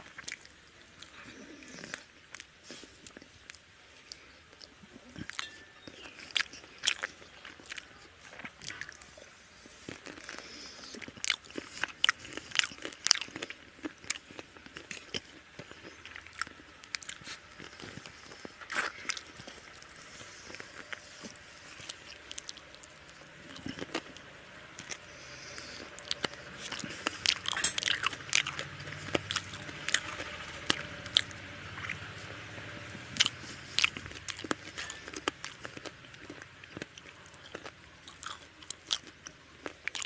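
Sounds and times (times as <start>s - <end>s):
man chewing with mouth clicks: 0.0s - 40.0s.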